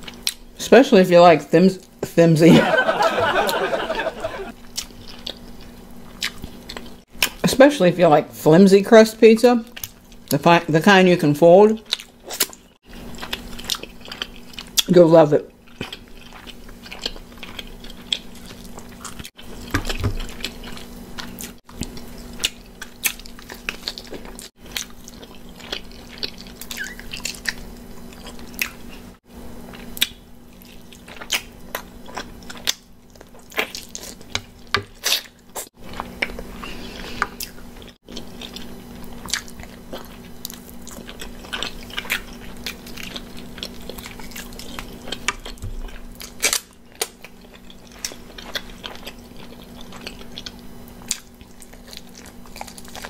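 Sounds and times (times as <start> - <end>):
person chewing and crunching: 0.0 - 0.5, 4.6 - 7.4, 9.7 - 10.4, 11.7 - 53.0.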